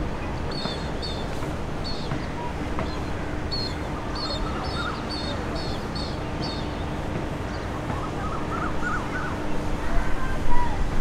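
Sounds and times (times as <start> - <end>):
lower wavering bird calls: 0.2 - 10.9.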